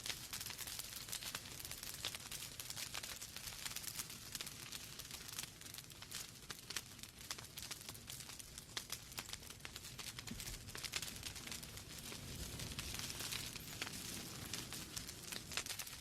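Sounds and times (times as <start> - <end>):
logs crackling in fireplace: 0.0 - 16.0.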